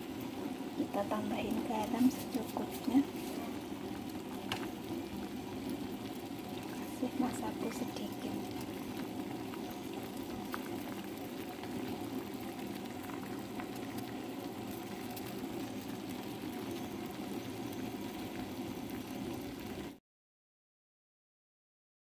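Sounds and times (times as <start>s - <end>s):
soup bubbling at a boil: 0.0s - 20.0s.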